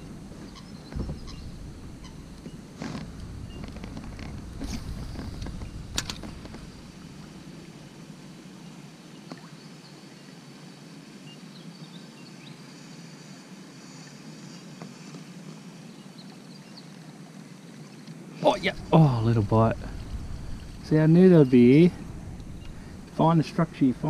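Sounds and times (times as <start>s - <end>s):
soft hiss of water and air: 0.0s - 24.0s.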